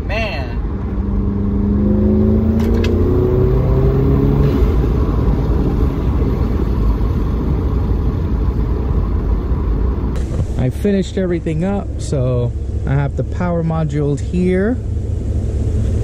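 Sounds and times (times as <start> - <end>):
low rumble of road noise: 0.0 - 16.0
car engine accelerating hard: 0.6 - 16.0.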